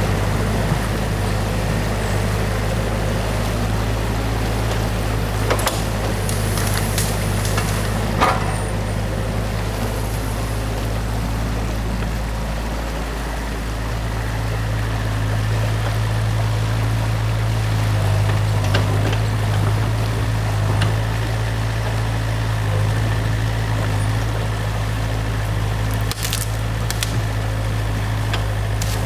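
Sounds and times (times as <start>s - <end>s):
diesel engine running: 0.0s - 29.0s
water rushing: 0.0s - 29.0s.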